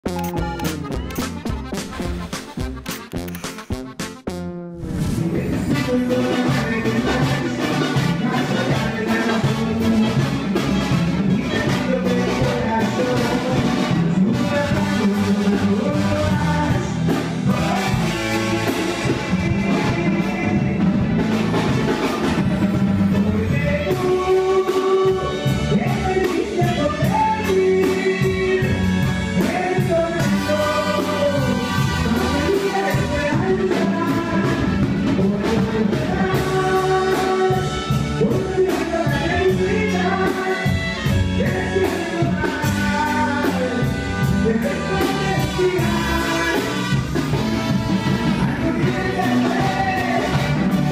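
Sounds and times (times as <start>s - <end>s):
banda band playing: 0.0s - 50.9s
lead vocal singing: 4.9s - 50.9s.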